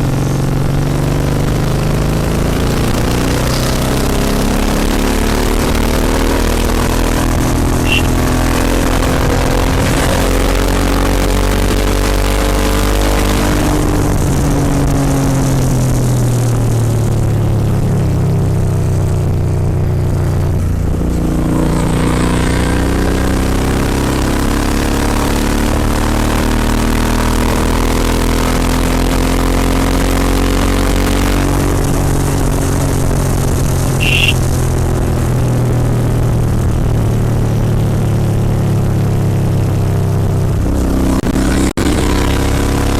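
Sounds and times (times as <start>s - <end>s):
motorcycle engine riding: 0.0s - 42.9s.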